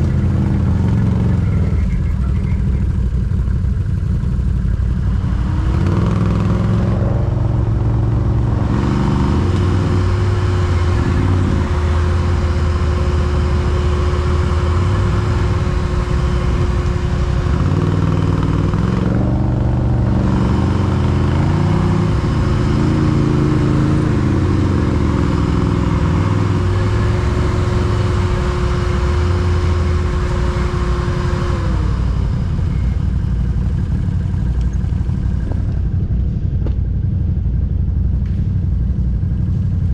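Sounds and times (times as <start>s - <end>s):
quad bike engine revving: 0.0s - 3.3s, 4.8s - 35.8s
steady whine: 0.0s - 39.9s.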